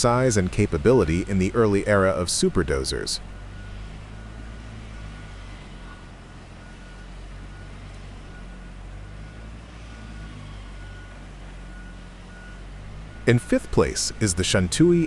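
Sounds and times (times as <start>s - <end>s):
bulldozer engine running: 0.0s - 15.0s.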